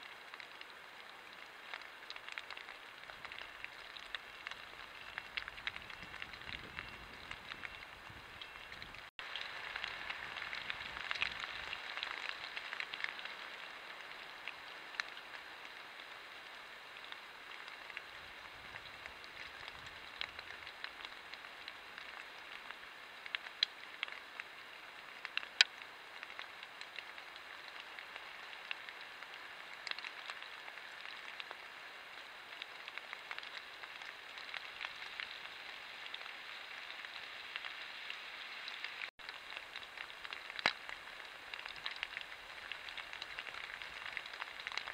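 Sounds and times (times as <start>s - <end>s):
light rain patter: 0.0s - 44.9s.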